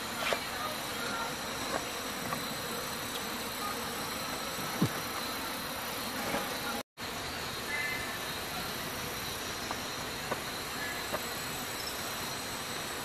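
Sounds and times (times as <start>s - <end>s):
campfire burning with hiss: 0.0s - 13.0s.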